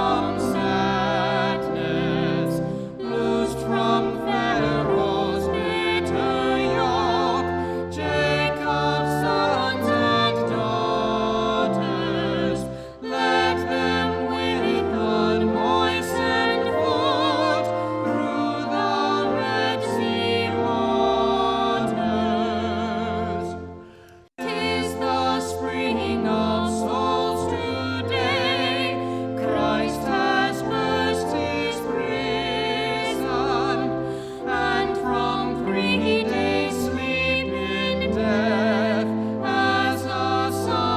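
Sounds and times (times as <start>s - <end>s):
person singing with vibrato: 0.0s - 40.9s
sustained instrumental accompaniment: 0.0s - 40.9s.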